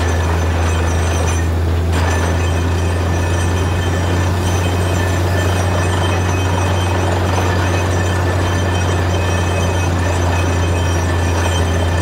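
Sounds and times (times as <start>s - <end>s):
drilling rig engine drone: 0.0s - 12.0s.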